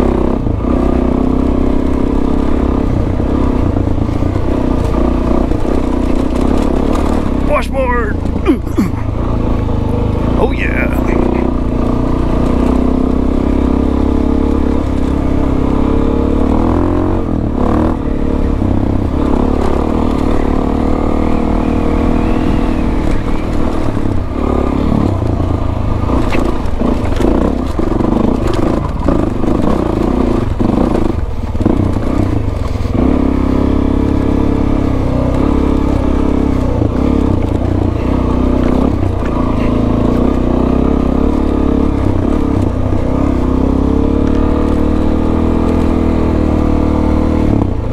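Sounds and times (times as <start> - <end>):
motorcycle clattering over bumps: 0.0 - 10.5, 11.3 - 47.9
motorcycle engine under load: 0.0 - 47.9.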